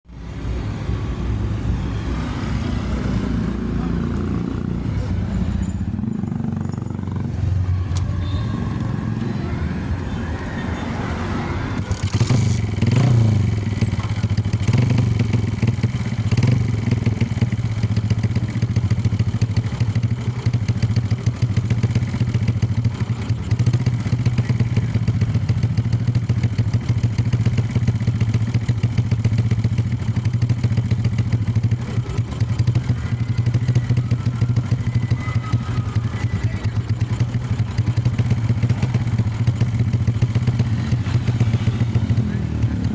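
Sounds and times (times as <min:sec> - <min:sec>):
motorcycle engine revving and idling: 0:00.2 - 0:42.9.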